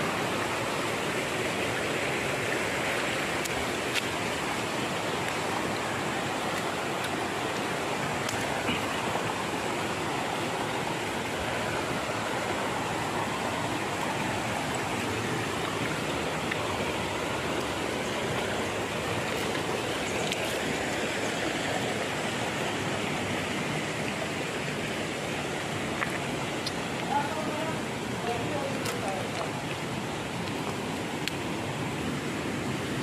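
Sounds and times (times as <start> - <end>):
stream rushing over rocks: 0.0 - 33.0.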